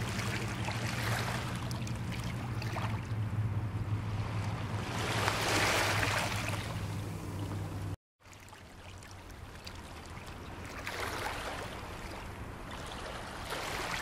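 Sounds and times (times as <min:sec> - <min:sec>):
small waves washing on shore: 0:00.0 - 0:14.0.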